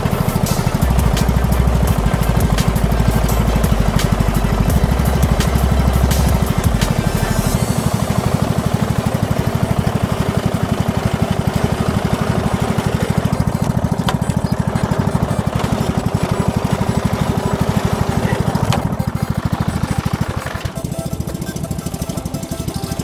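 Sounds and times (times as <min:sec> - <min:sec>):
mower engine running: 0:00.0 - 0:23.0.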